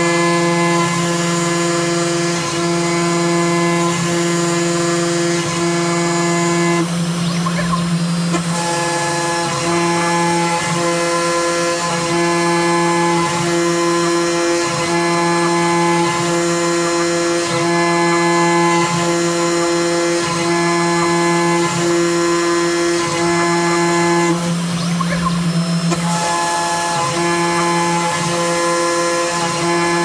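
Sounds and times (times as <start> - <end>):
router spindle whine cutting plastic: 0.0 - 30.0.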